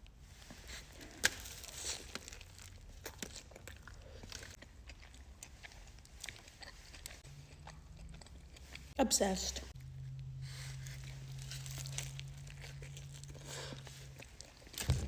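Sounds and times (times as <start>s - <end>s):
chewing with mouth clicks: 0.6s - 9.0s, 9.7s - 15.0s.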